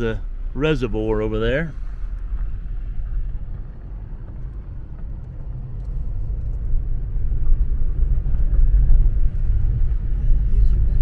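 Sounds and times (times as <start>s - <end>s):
car rumbling on gravel: 0.0s - 11.0s.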